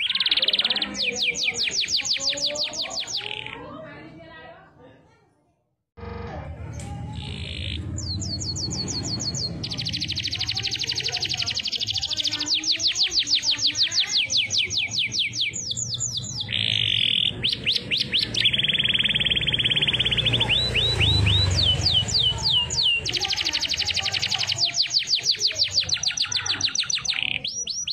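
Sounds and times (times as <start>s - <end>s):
canary singing: 0.0s - 3.9s, 6.0s - 27.9s.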